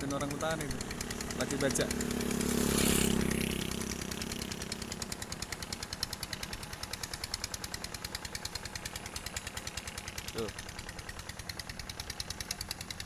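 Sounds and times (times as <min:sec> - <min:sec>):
hand tractor engine chugging: 0:00.0 - 0:13.0.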